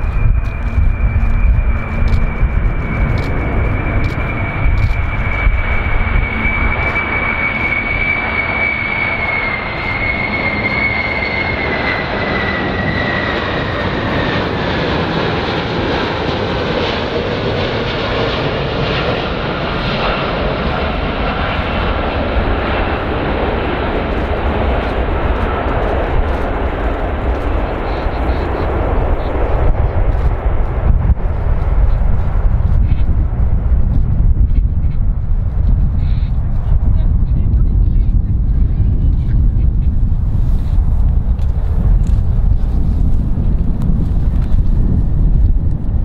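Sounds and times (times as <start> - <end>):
jet engine rumble and whine: 0.0 - 46.0.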